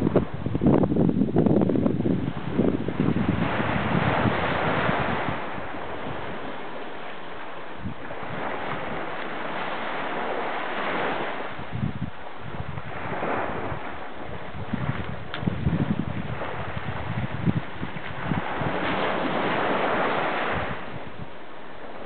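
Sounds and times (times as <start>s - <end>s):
small waves breaking on shore: 0.0s - 22.0s
wind buffeting microphone: 0.0s - 22.0s.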